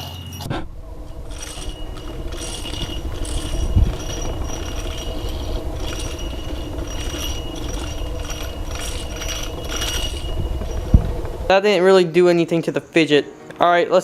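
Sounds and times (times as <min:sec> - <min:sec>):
mechanism rumbling: 0:00.0 - 0:12.1
high scraping streaks: 0:00.0 - 0:12.2.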